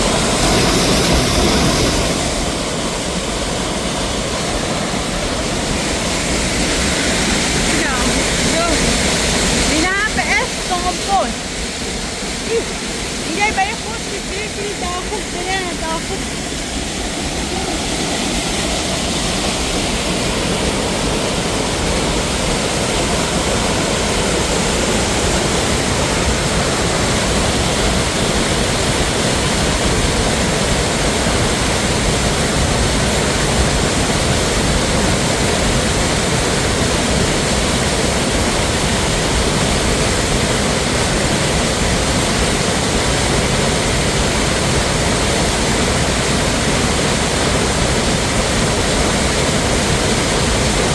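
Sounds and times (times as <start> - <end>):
waterfall rushing water: 0.0 - 50.9.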